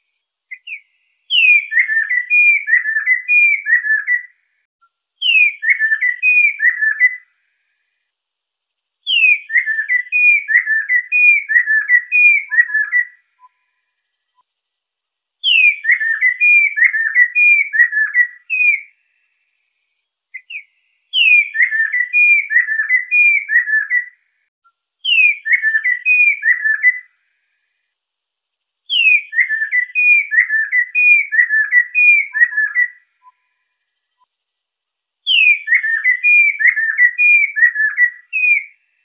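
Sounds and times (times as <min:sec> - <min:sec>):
bird singing whistled notes: 0:00.0 - 0:04.4, 0:05.2 - 0:07.4, 0:09.0 - 0:14.5, 0:15.4 - 0:19.4, 0:20.3 - 0:24.3, 0:25.0 - 0:27.2, 0:28.9 - 0:34.3, 0:35.2 - 0:39.0.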